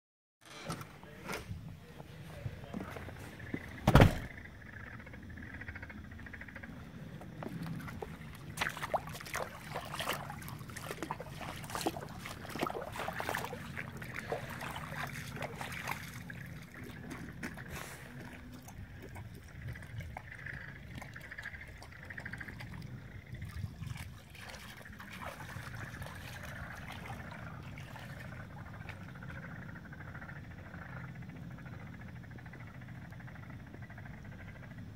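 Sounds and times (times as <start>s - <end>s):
floodwater splashing and trickling: 6.3s - 34.4s.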